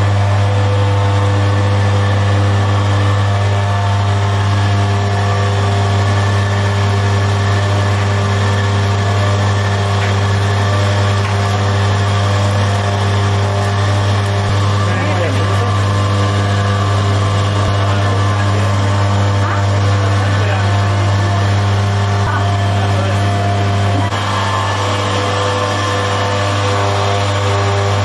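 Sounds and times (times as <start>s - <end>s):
dough mixer motor hum: 0.0s - 28.0s.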